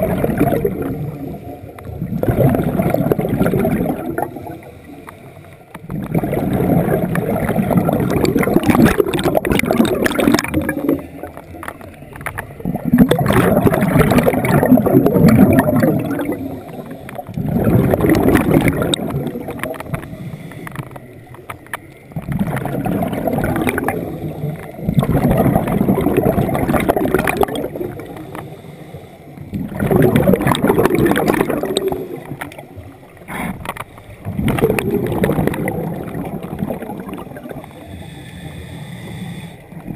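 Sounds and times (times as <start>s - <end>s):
diver's bubbles gurgling underwater: 0.0s - 4.8s, 5.7s - 28.6s, 29.4s - 37.8s.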